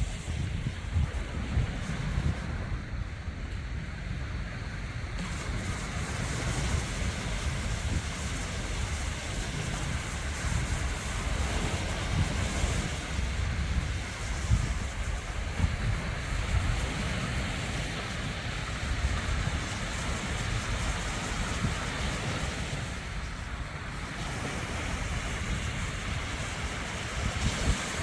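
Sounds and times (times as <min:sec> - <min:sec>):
surf washing onto beach: 0:00.0 - 0:28.0
wind buffeting microphone: 0:00.0 - 0:28.0.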